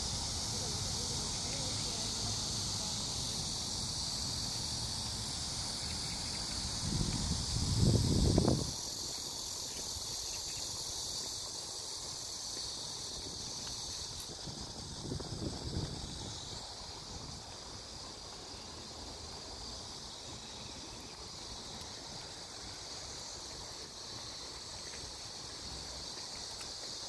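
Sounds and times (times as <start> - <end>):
insects chorus: 0.0 - 27.0.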